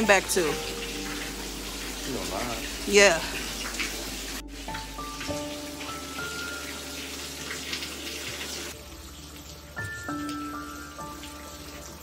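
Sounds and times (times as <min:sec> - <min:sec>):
water pouring and splashing on floor: 0:00.0 - 0:12.0.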